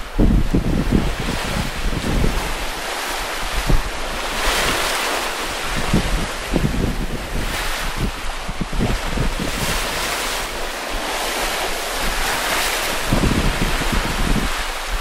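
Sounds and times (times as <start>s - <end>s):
waves rushing past hull: 0.0s - 15.0s
wind buffeting microphone: 0.0s - 15.0s.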